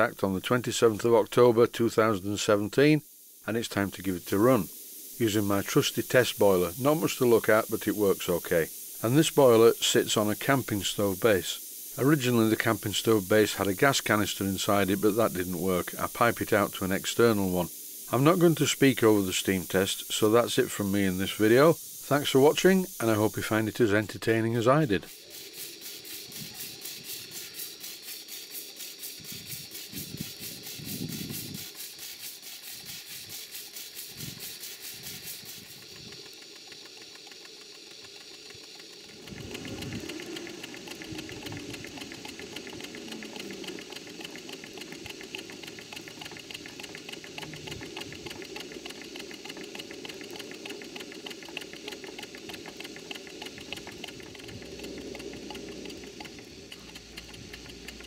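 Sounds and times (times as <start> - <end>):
steam engine chuffing: 0.0 - 58.0
steam hissing: 0.0 - 58.0.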